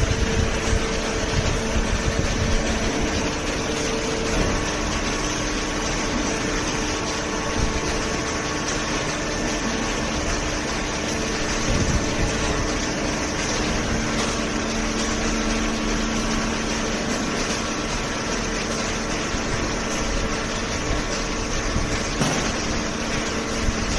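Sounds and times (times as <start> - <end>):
machine hum: 0.0 - 23.9.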